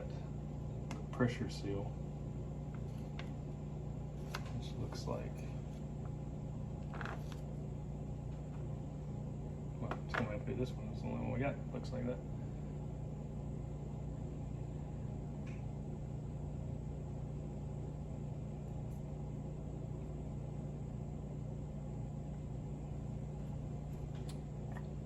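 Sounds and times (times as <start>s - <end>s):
fan or motor humming: 0.0s - 25.0s.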